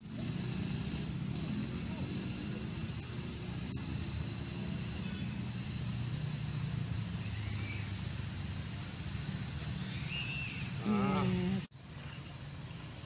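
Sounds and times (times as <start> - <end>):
background hiss: 0.0 - 13.0
low mechanical hum: 0.0 - 13.0.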